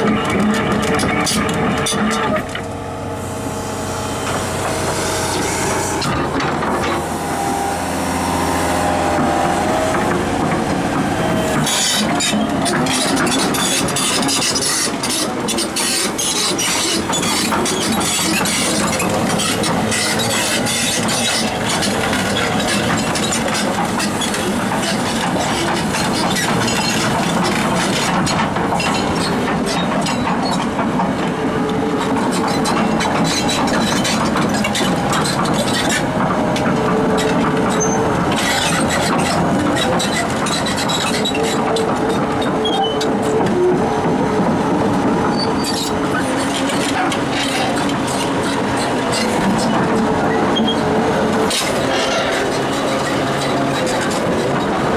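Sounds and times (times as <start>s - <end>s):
excavator engine running: 0.0s - 54.9s
track squealing: 0.0s - 54.9s.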